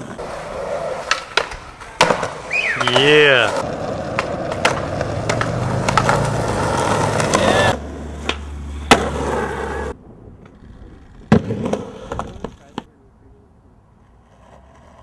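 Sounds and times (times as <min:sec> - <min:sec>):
skateboard clacking on ground: 0:00.0 - 0:12.9
skateboard wheels rolling: 0:00.0 - 0:13.0, 0:13.8 - 0:15.0.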